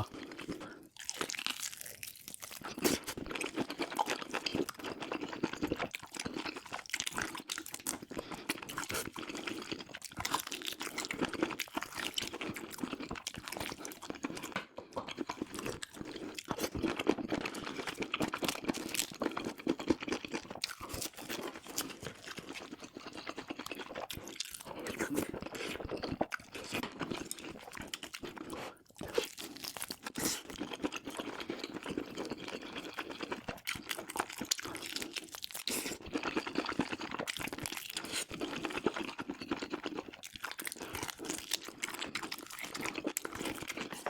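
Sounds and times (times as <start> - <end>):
person chewing and biting: 0.0 - 44.0.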